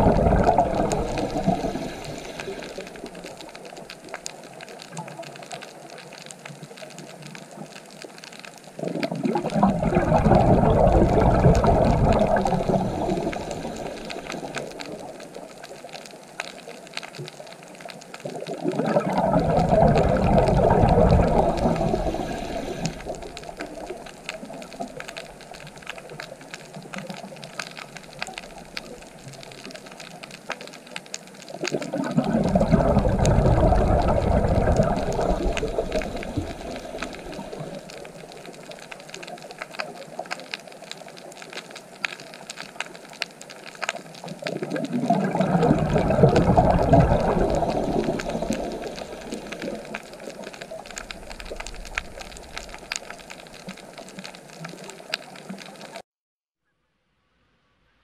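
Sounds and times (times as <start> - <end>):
soft wash of water: 0.0 - 56.0
water surging: 0.0 - 56.0.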